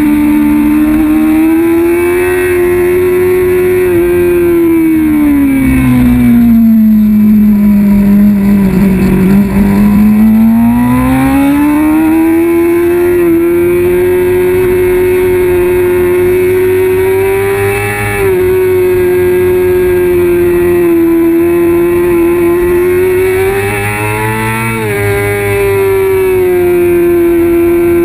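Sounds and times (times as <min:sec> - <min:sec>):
motorcycle engine at racing speed: 0:00.0 - 0:28.0.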